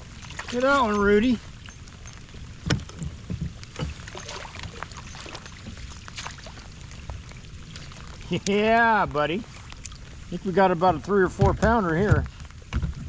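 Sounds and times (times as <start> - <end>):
gear knocking in plastic kayak: 0.0 - 9.0, 9.6 - 13.0
wind and water hiss: 0.0 - 13.0.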